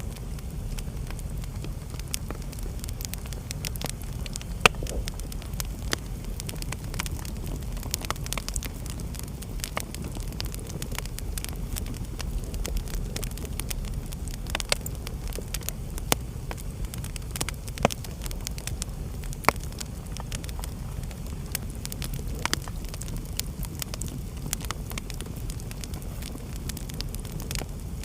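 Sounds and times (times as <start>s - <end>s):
wood fire crackling in fireplace: 0.0s - 28.0s.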